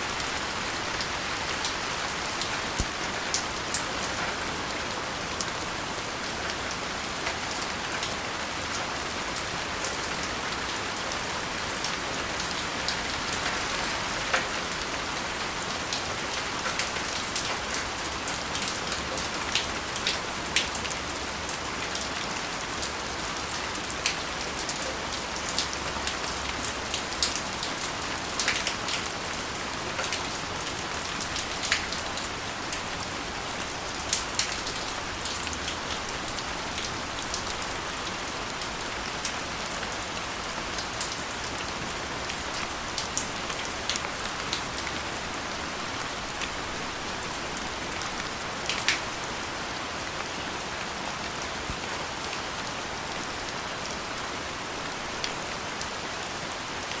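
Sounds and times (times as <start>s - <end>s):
raindrops ticking on hard surfaces: 0.0s - 57.0s
steady rain hiss: 0.0s - 57.0s.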